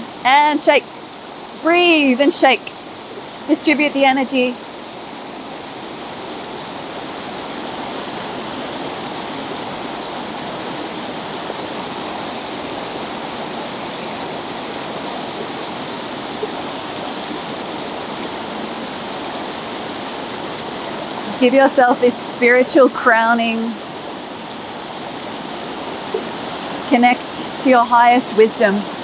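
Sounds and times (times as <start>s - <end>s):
river water rushing over rocks: 0.0s - 29.0s
waterfall: 0.0s - 29.0s.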